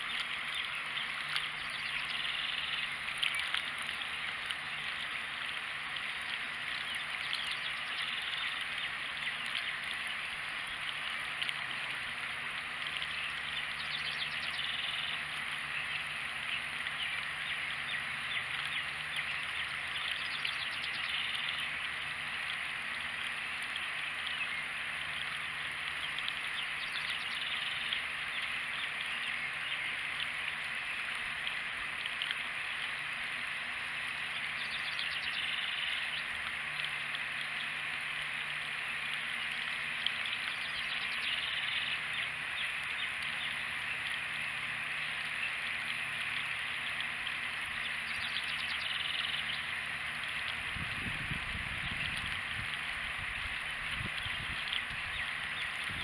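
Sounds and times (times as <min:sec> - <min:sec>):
water running from hose: 0:00.0 - 0:56.0
water spilling into puddle: 0:00.0 - 0:56.0.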